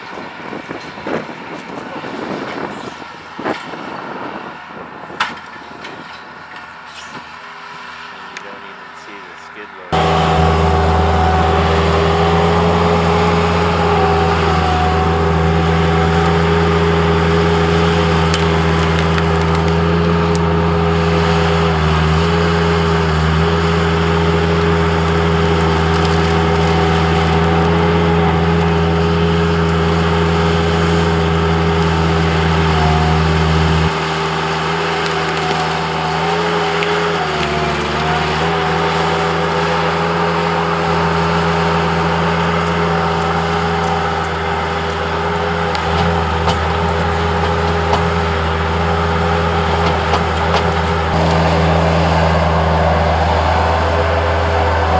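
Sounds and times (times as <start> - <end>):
loader engine at high throttle: 0.0 - 54.9.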